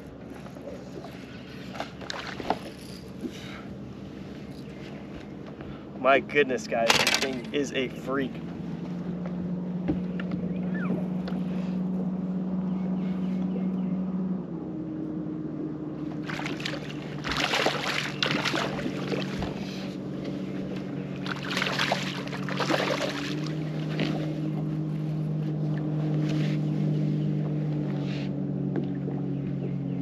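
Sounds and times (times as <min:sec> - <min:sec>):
electric trolling motor humming: 0:01.0 - 0:30.0.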